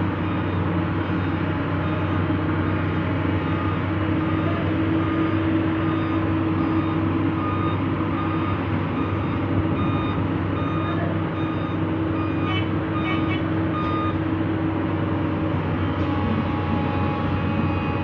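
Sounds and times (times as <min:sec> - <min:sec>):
diesel engine running: 0:00.0 - 0:18.0
reversing alarm beeping: 0:00.2 - 0:14.3, 0:15.8 - 0:18.0.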